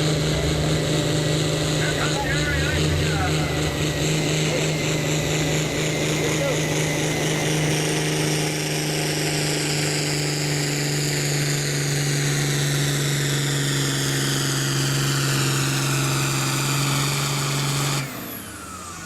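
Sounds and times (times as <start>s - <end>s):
tractor engine running hard: 0.0s - 19.0s.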